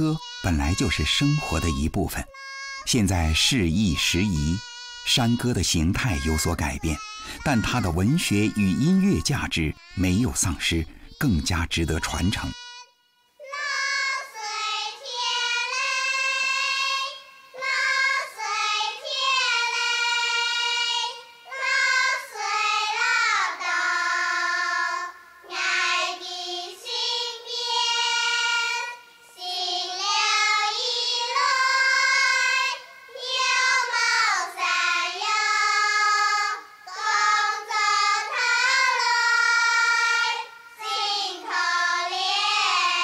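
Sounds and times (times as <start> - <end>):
girls singing together: 0.0 - 43.0.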